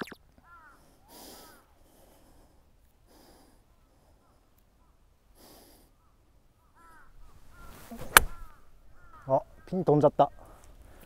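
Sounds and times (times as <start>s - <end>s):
faint distant bird calls: 0.0s - 11.0s.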